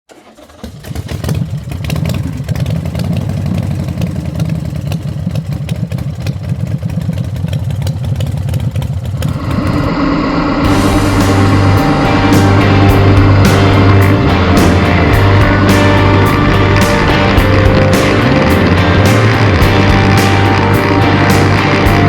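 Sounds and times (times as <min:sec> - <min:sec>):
motorcycle engine idling: 0:00.5 - 0:22.0.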